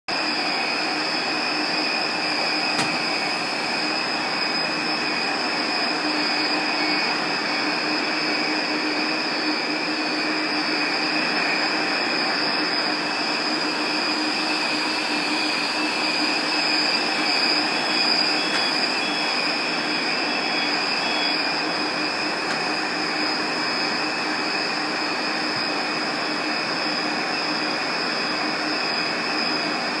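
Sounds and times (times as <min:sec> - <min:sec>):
cooling fans rushing: 0:00.1 - 0:30.0
alarm buzzers high-pitched tone: 0:00.2 - 0:29.7.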